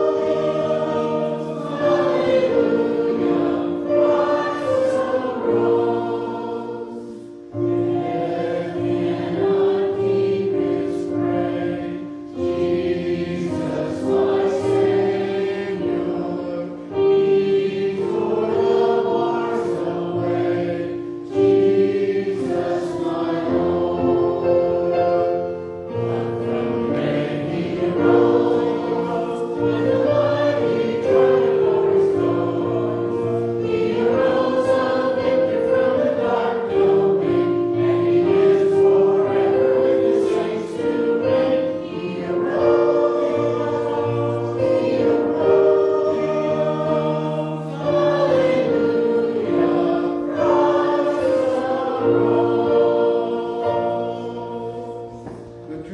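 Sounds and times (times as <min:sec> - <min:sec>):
choir singing a hymn: 0:00.0 - 0:55.9
instrumental accompaniment: 0:00.0 - 0:55.9.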